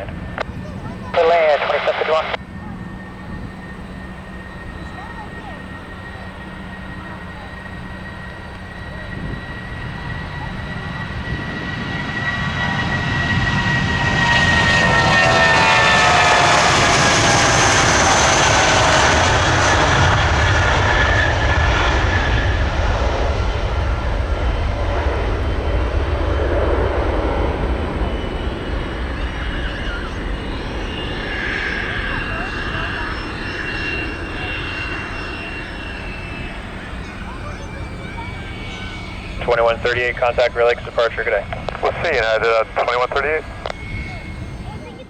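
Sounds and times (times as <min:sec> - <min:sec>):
jet airliner engine roar: 0:00.0 - 0:45.0.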